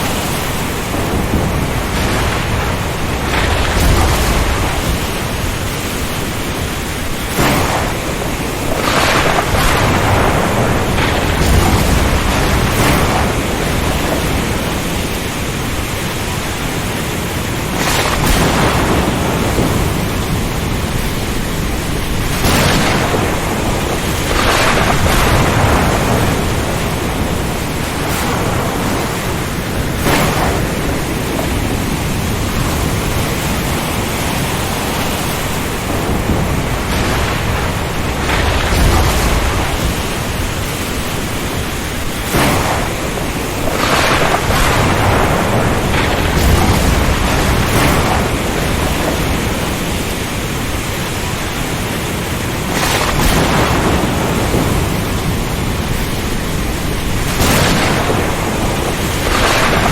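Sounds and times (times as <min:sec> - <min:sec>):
rain: 0:00.0 - 0:59.9
strong wind: 0:00.0 - 0:59.9
waves: 0:00.0 - 0:59.9.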